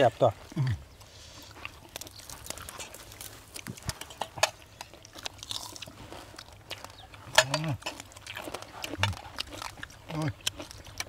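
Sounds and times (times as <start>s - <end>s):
person chewing food: 0.4s - 11.0s.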